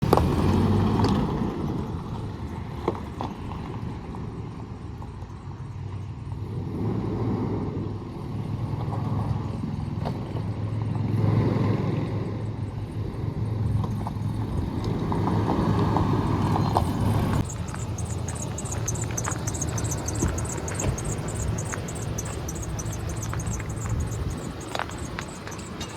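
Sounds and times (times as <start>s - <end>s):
pickup engine humming: 0.0s - 25.9s.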